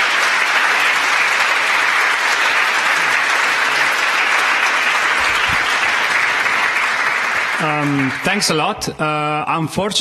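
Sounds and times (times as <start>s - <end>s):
large audience applauding: 0.0s - 9.0s.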